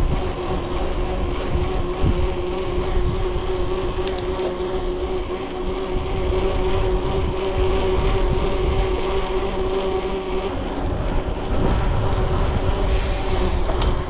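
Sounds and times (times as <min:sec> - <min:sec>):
bicycle wheels humming: 0:00.0 - 0:14.0
low rumble: 0:00.0 - 0:14.0.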